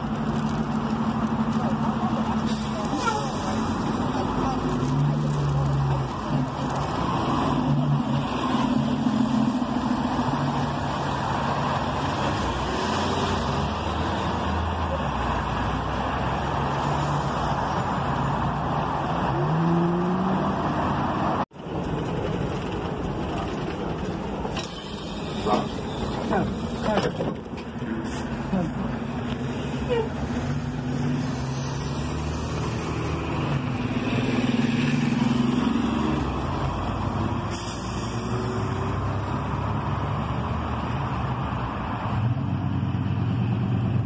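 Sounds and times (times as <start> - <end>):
bus engine passing: 0.0 - 44.0
cars driving through intersection: 0.0 - 44.0
moving bus rumbling and rattling: 0.0 - 44.0.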